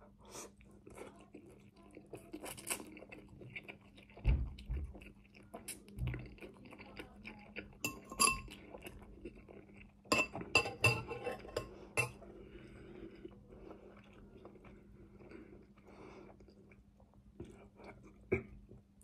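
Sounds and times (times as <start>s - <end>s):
chewing and slurping noodles: 0.4s - 10.5s, 11.4s - 18.4s.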